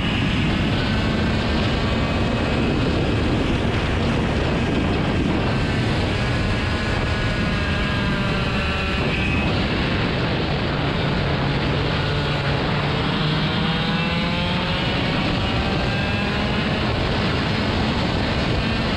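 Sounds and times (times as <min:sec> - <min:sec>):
steady rushing noise: 0:00.0 - 0:18.9
vehicle engine running: 0:00.0 - 0:18.9.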